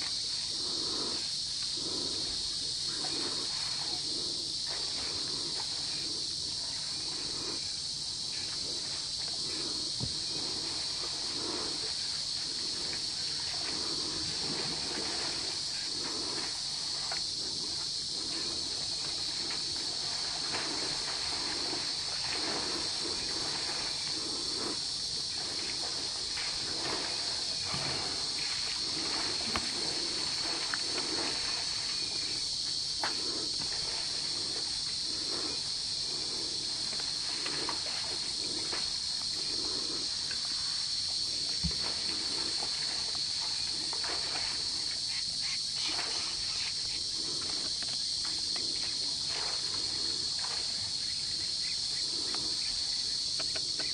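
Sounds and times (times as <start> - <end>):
insect chorus droning: 0.0 - 53.9
water splashing and sloshing: 0.0 - 53.9.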